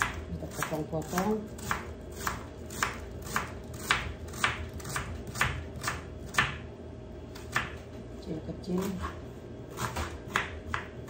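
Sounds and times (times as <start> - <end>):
knife chopping on wooden board: 0.0 - 6.6, 7.4 - 7.9, 8.8 - 11.0.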